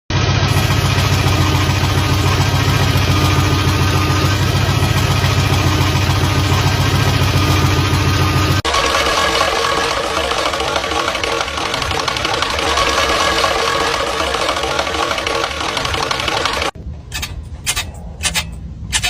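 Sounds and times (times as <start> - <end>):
car engine idling: 0.1 - 16.8.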